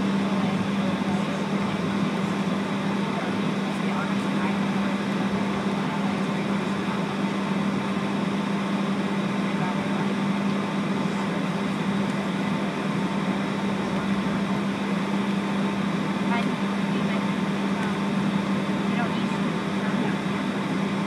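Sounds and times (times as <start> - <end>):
constant hum: 0.0 - 21.0
jet engines idling: 0.0 - 21.0.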